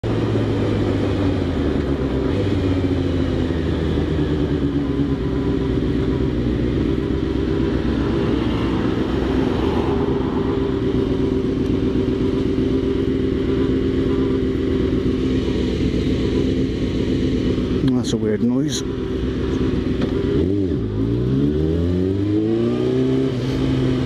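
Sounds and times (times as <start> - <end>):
motorcycle engine running: 0.0 - 24.0
odd engine noise: 0.0 - 24.0.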